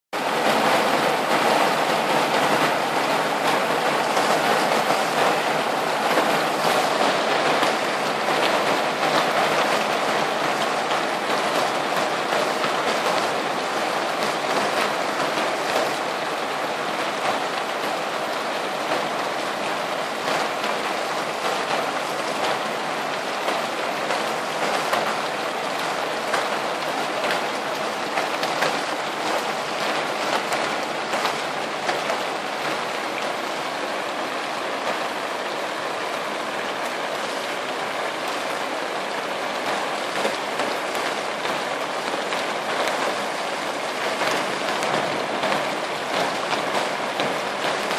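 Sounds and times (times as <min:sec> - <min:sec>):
hail and rain pattering: 0:00.2 - 0:47.9.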